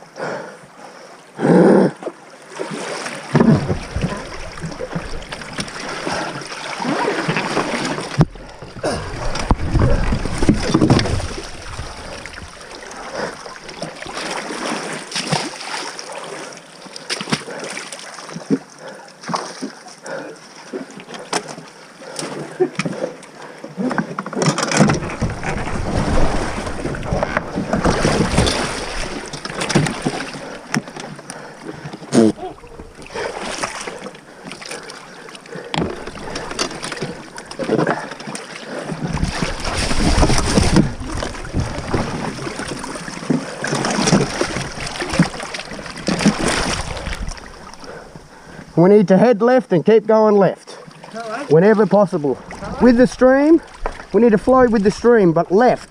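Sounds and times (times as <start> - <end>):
river water splashing: 0.0 - 48.8, 50.8 - 55.9
paddle strokes in water: 1.9 - 48.8, 52.2 - 55.9.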